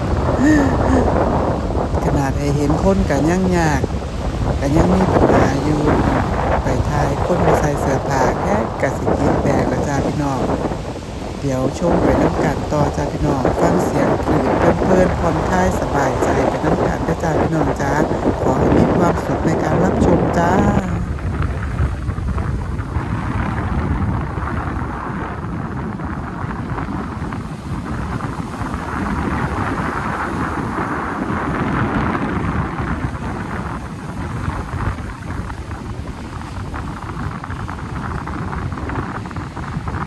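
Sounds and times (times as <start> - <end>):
waves washing onto shore: 0.0 - 40.0
wind buffeting microphone: 0.0 - 40.0.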